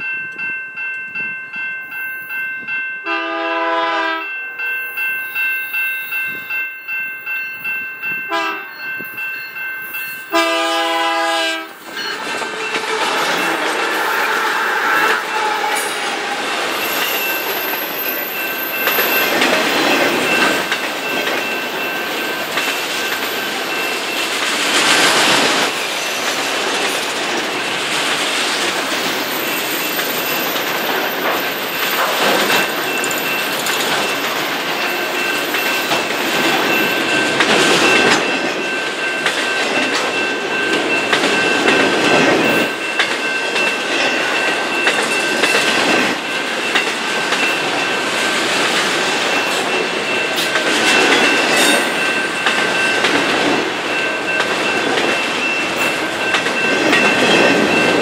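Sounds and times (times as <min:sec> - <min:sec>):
high ringing tone: 0:00.0 - 0:24.7, 0:29.0 - 0:58.0
freight train wheels rumbling: 0:00.0 - 0:58.0.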